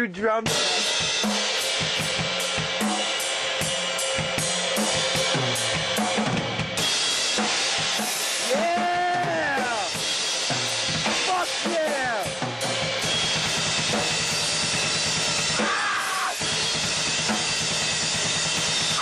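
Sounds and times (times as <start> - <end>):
drum kit playing a beat: 0.0 - 19.0.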